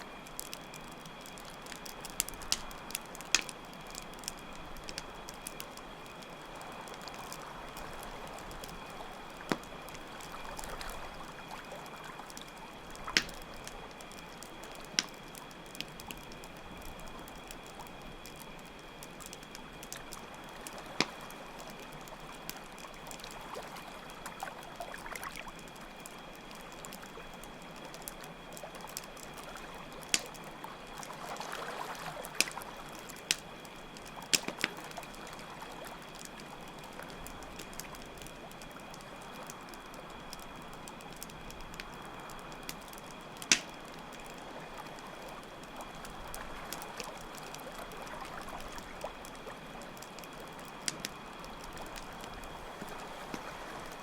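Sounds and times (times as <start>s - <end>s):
campfire crackling and popping: 0.0s - 54.0s
crickets chirping: 0.0s - 54.0s
trickling water: 0.0s - 54.0s.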